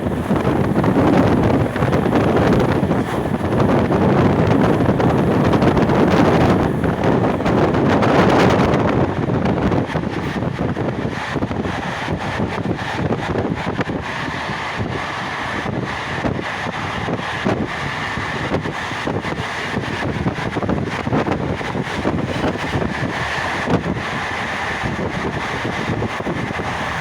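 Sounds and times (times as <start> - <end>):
train rumbling and rattling: 0.0 - 27.0
wind buffeting microphone: 0.0 - 27.0.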